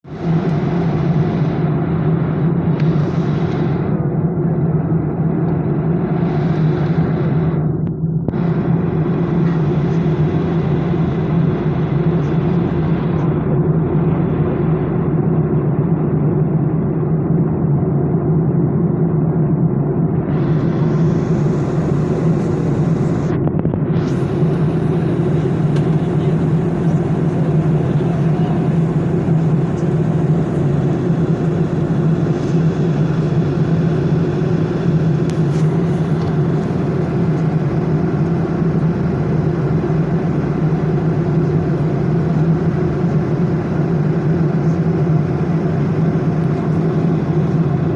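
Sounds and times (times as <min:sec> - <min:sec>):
propeller airplane engine drone: 0:00.0 - 0:47.9.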